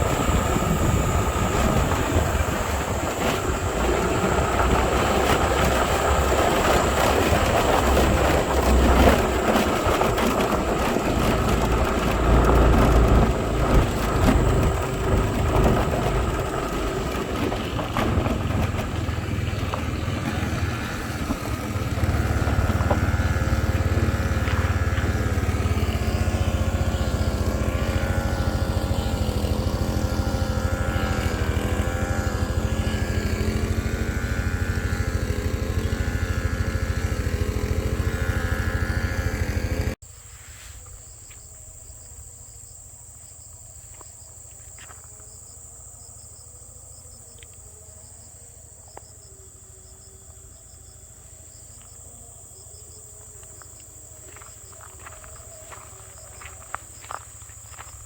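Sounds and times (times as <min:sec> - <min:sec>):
insect calls: 0:00.0 - 0:58.0
small engine whining: 0:00.0 - 0:58.0.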